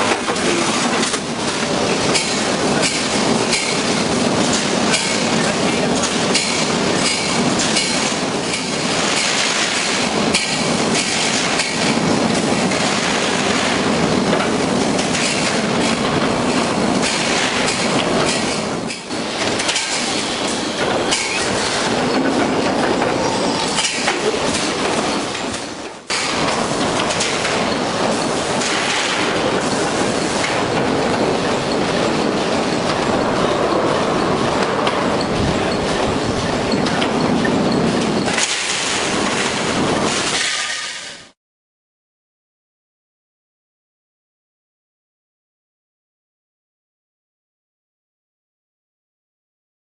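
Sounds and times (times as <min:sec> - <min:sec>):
welding machine clattering: 0:00.0 - 0:41.2.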